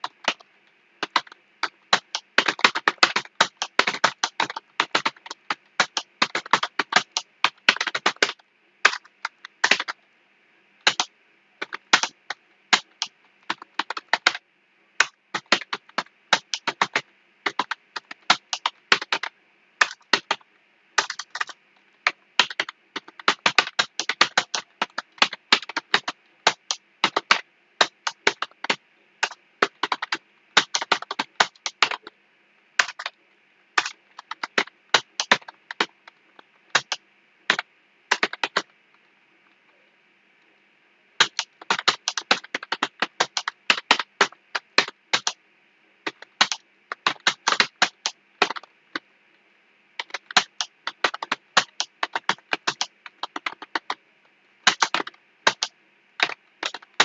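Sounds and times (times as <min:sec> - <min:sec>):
faint steady hiss: 0:00.0 - 0:57.0
computer keyboard typing: 0:01.0 - 0:10.0, 0:10.8 - 0:14.4, 0:15.0 - 0:20.4, 0:21.0 - 0:32.1, 0:32.8 - 0:33.2, 0:33.8 - 0:38.7, 0:41.2 - 0:45.4, 0:46.0 - 0:48.7, 0:50.0 - 0:54.0, 0:54.6 - 0:57.0.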